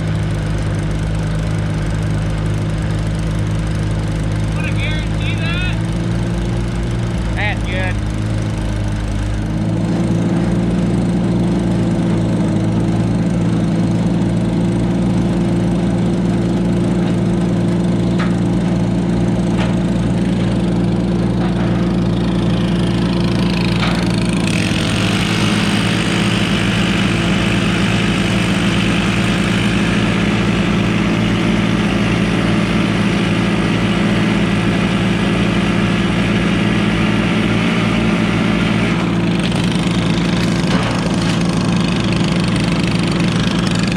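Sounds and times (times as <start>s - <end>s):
loader engine running: 0.0s - 43.9s.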